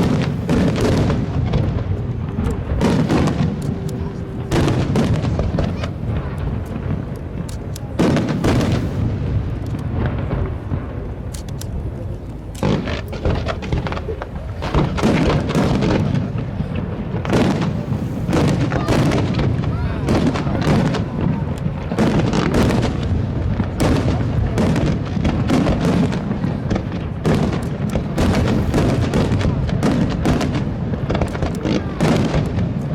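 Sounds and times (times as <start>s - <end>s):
fireworks bangs and crackles: 0.0s - 32.9s.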